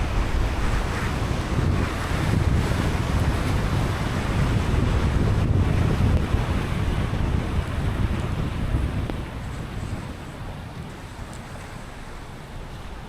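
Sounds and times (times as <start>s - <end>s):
rain: 0.0s - 13.0s.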